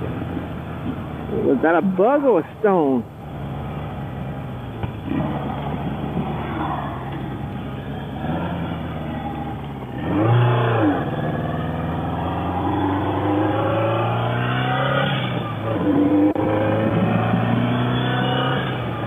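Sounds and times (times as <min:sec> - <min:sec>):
motorcycle engine revving: 0:03.2 - 0:19.0.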